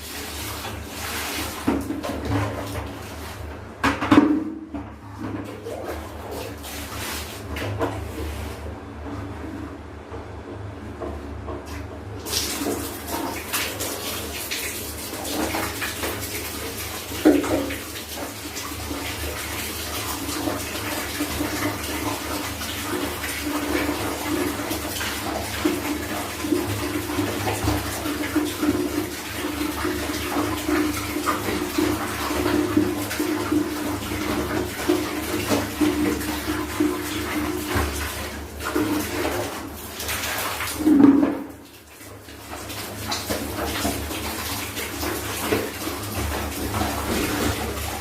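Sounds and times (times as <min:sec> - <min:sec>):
water splashing and running: 0:00.0 - 0:04.3, 0:05.2 - 0:08.5, 0:12.2 - 0:48.0.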